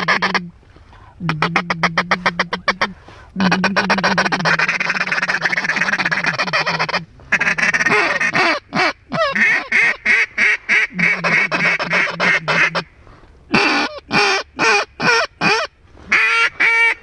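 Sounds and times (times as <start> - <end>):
duck call chatter: 0.0 - 0.5, 1.2 - 12.9, 13.5 - 17.0
duck call quacks: 0.0 - 0.5, 1.2 - 12.9, 13.5 - 17.0.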